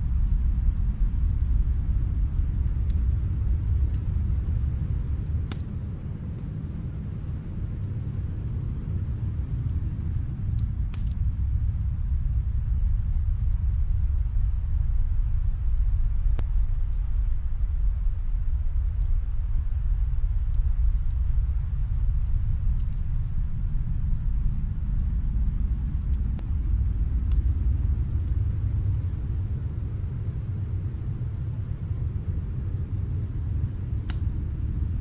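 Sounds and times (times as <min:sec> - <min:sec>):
steady low rumble: 0:00.0 - 0:35.0
wood fire crackling and popping: 0:00.0 - 0:35.0.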